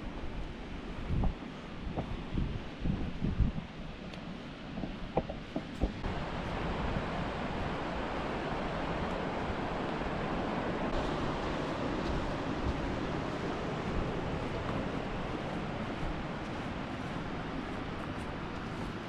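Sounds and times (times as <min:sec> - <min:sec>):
ocean surf on sandy beach: 0:00.0 - 0:19.0
wind buffeting microphone: 0:00.0 - 0:19.0.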